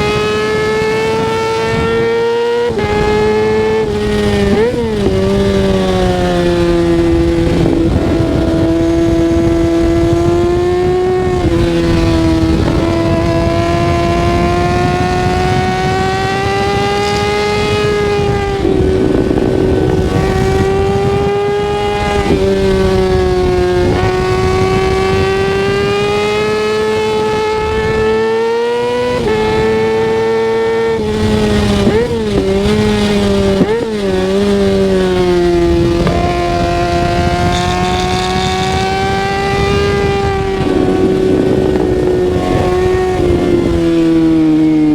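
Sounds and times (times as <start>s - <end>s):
motorcycle engine revving through gears: 0.0s - 44.9s
wind rushing: 0.0s - 44.9s.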